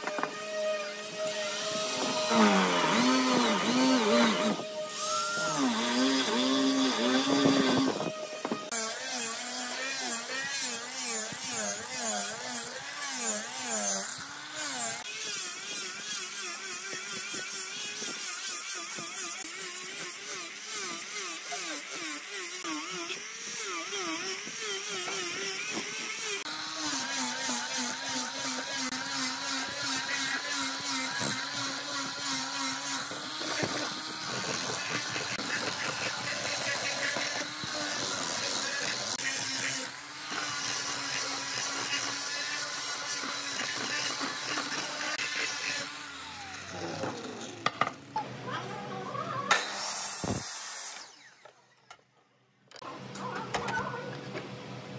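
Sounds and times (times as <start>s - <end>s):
angle grinder sanding wood: 0.0s - 47.8s.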